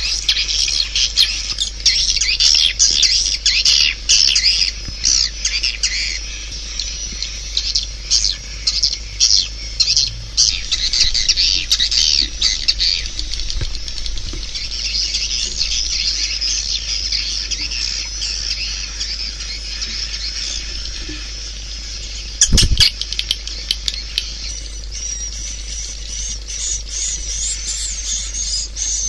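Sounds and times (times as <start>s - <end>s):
steady low hum: 0.0s - 29.0s
swiftlet chirps and twitters: 0.0s - 29.0s.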